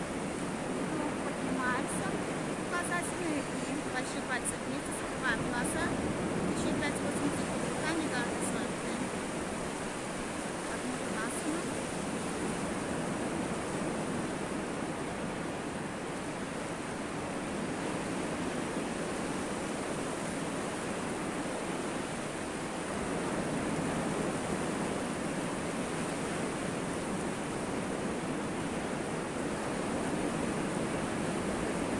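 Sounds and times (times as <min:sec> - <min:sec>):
surf washing onto beach: 0:00.0 - 0:31.9.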